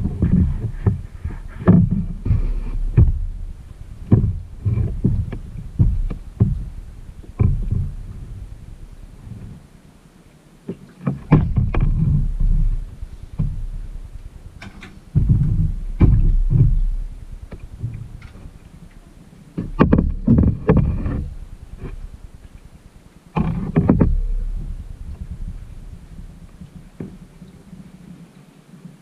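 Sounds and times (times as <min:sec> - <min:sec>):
low rumble: 0:00.0 - 0:10.1, 0:11.2 - 0:28.0
paddle splashing in water: 0:00.0 - 0:29.0.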